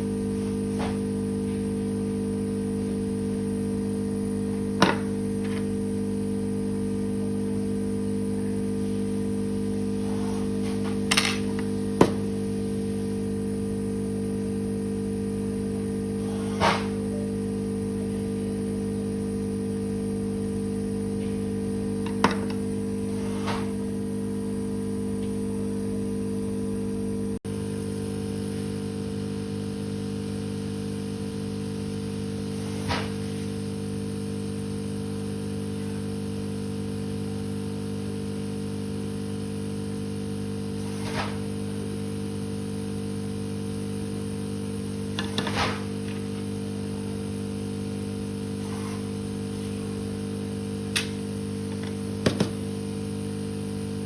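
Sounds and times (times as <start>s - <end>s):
electric hum: 0.0s - 54.0s.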